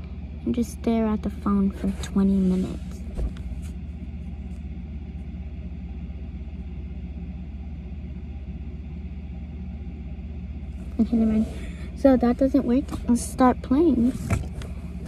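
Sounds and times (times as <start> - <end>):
air conditioner rumbling: 0.0 - 15.0.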